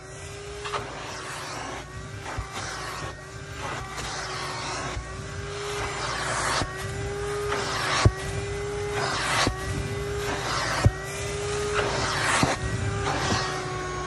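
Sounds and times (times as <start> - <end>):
shop vacuum motor whine: 0.0 - 14.0.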